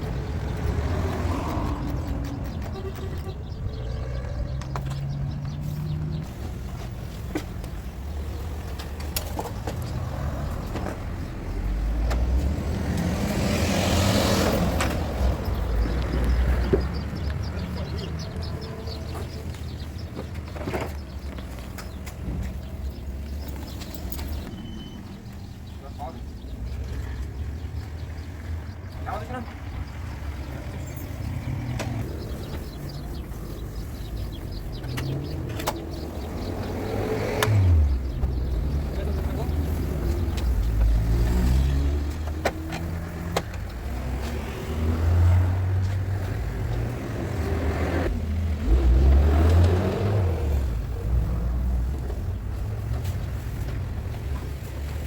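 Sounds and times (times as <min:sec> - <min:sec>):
vehicle engine passing by: 0:00.0 - 0:06.5, 0:09.5 - 0:55.0.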